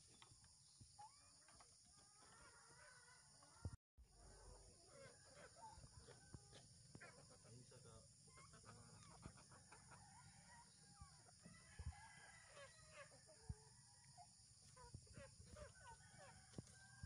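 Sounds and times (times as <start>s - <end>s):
chickens clucking: 0.1s - 3.7s, 4.6s - 16.8s.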